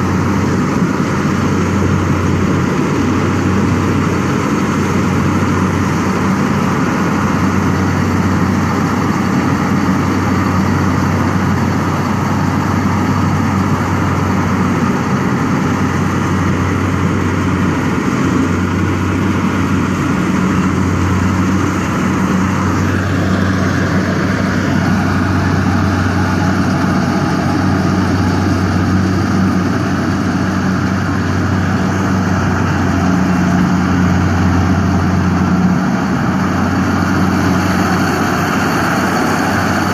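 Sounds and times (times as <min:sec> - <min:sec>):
large engine humming: 0:00.0 - 0:39.9.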